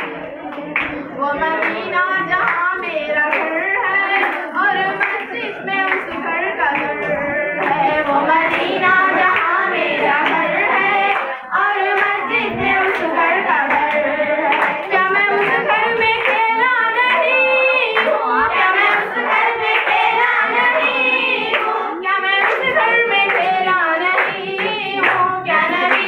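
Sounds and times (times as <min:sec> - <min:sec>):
hands clapping along: 0:00.0 - 0:26.0
voices singing: 0:00.0 - 0:26.0.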